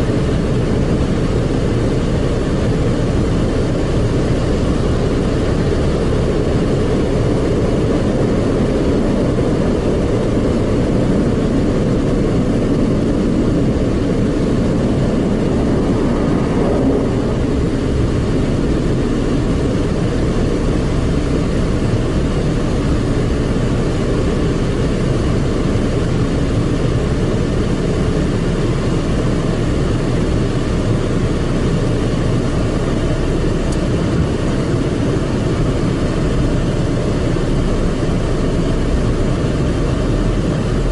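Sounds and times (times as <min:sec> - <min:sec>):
car wash machinery rumbling: 0:00.0 - 0:40.9.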